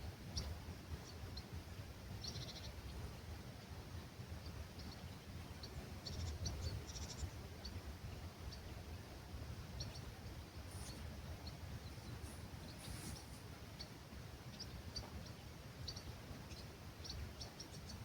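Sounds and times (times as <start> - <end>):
low rumble of breeze: 0.0 - 18.0
small birds chirping faintly: 0.0 - 18.0.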